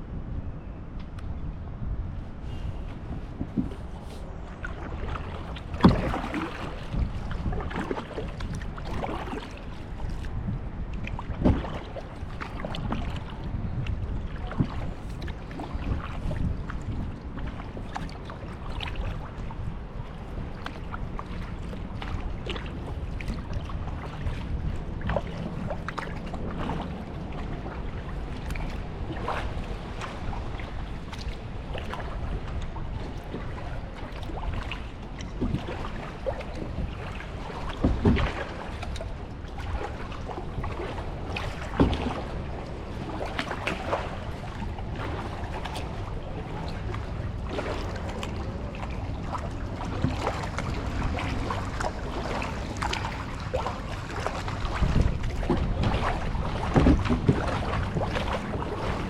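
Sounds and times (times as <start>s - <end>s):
wind rumble on microphone: 0.0s - 59.0s
water trickling off paddle: 2.4s - 59.0s
kayak paddle splashing in water: 2.6s - 10.3s, 10.9s - 59.0s.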